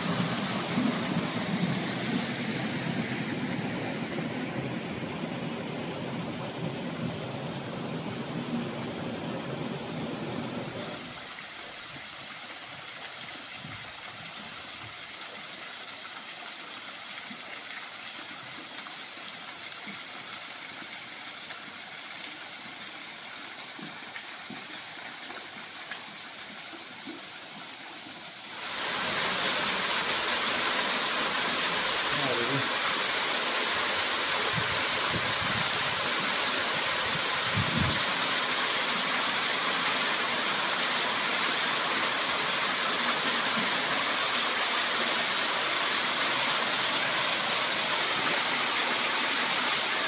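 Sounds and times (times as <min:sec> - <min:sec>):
stream water rushing: 0:00.0 - 0:50.0
waterfall splashing into pool: 0:00.0 - 0:50.0.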